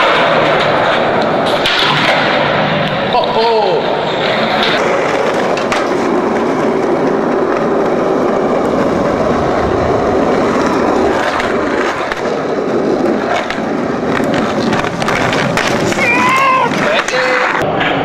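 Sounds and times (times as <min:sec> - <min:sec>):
skateboard wheels rolling: 0:00.0 - 0:18.0.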